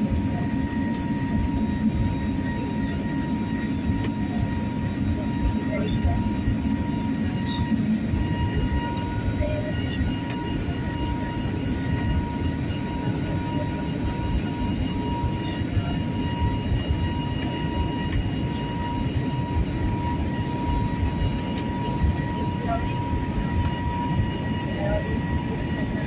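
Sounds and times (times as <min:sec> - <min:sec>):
engine and airflow rumble: 0:00.0 - 0:26.0
thin steady whine: 0:00.0 - 0:26.0.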